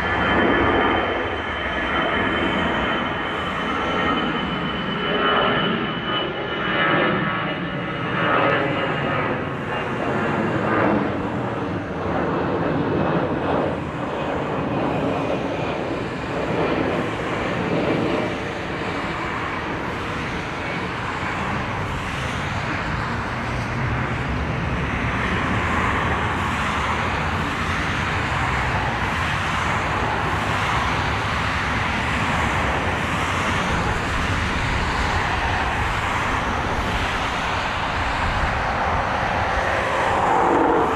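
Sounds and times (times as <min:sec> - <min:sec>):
airplane engine roar: 0:00.0 - 0:40.9.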